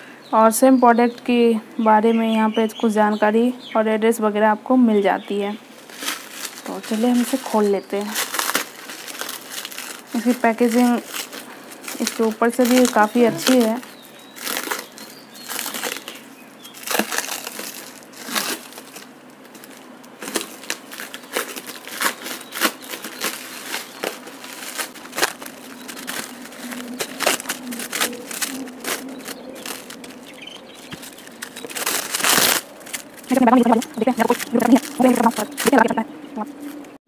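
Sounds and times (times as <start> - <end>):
plastic wrapping crinkling: 5.6 - 36.9.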